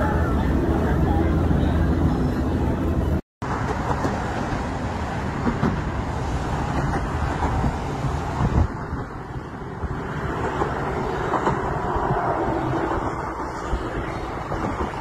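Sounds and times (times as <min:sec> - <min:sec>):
cars passing on busy road: 0:00.0 - 0:15.0.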